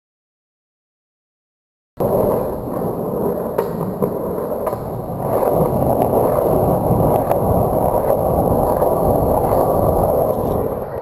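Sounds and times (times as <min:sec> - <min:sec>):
skateboard wheels clicking on joints: 0:02.0 - 0:11.0
skateboard wheels rolling on concrete: 0:02.0 - 0:11.0.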